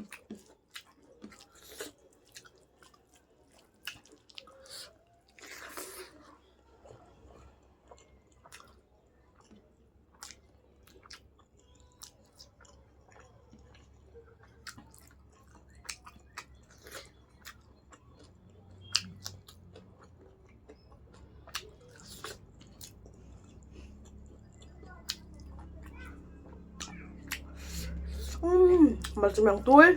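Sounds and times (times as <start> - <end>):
food crunching: 0.0 - 28.4
person chewing food: 0.0 - 28.4.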